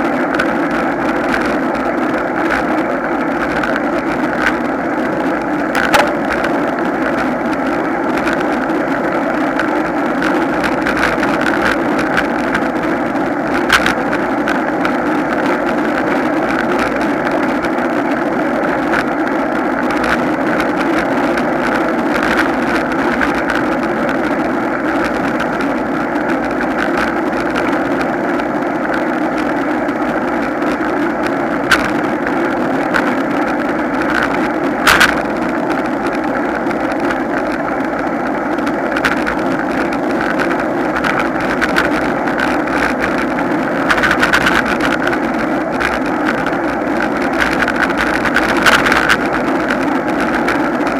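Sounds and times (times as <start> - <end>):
road rumble: 0.0 - 50.9
wind noise: 0.0 - 50.9.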